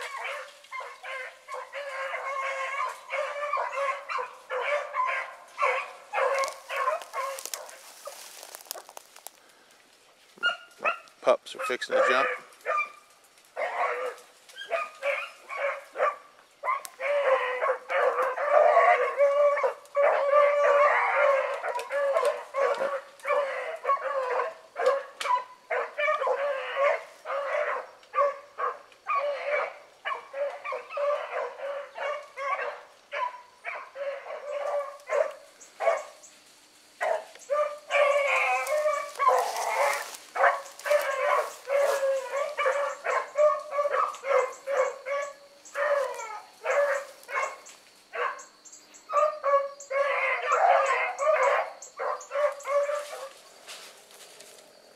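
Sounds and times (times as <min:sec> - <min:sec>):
dogs barking and baying: 0:00.0 - 0:09.0, 0:10.4 - 0:36.3, 0:37.0 - 0:53.4.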